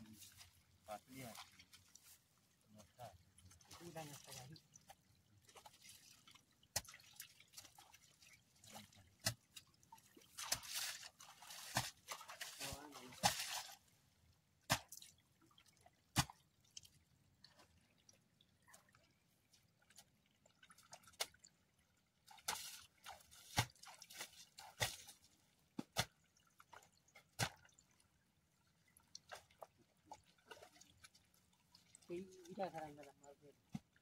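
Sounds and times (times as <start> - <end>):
wet clicks and drips of mud: 2.8 - 13.8, 14.6 - 32.8.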